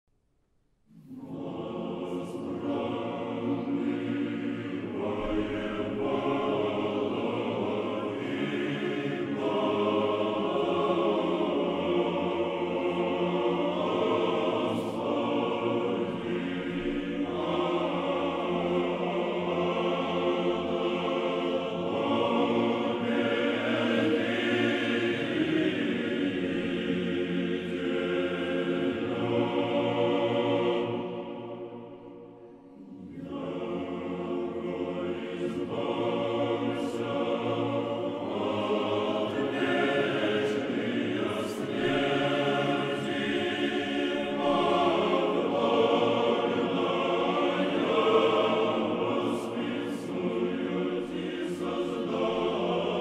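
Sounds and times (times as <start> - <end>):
choir singing long chords: 0.9 - 53.0.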